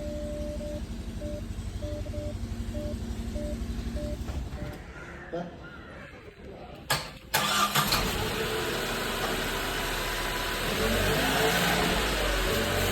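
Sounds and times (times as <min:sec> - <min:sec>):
car engine starting and idling: 0:00.0 - 0:05.0, 0:06.8 - 0:12.9.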